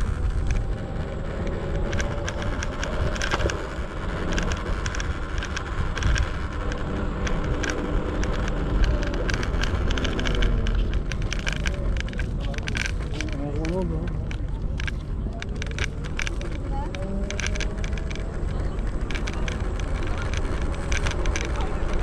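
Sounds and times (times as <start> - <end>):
rattling clicks: 0.0 - 22.0
scooter tyres rumbling on pavement: 0.0 - 22.0.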